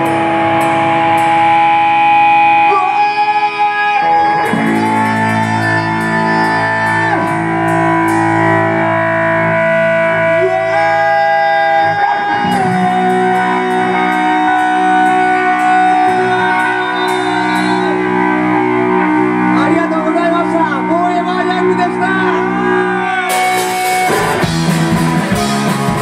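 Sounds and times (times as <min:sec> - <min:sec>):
distorted electric guitar: 0:00.0 - 0:26.0.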